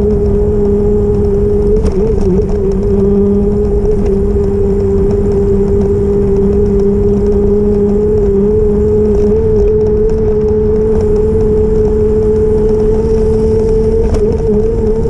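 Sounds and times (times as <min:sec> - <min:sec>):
electric bike motor whining: 0:00.0 - 0:15.0
wind and road noise: 0:00.0 - 0:15.0.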